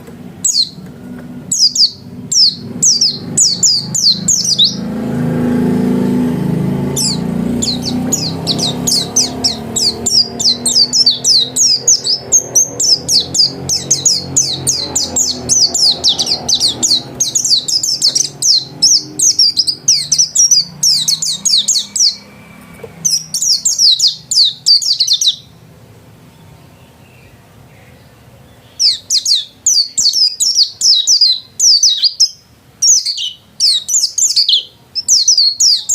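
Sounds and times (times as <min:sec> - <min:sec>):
bird singing rapid high chirps: 0:00.4 - 0:35.9.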